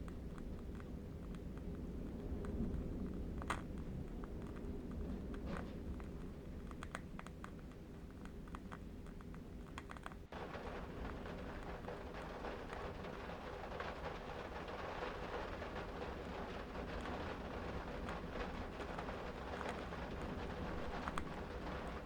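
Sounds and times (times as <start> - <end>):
candle wick crackling: 0.0 - 22.0
low wind rumble: 0.0 - 22.0.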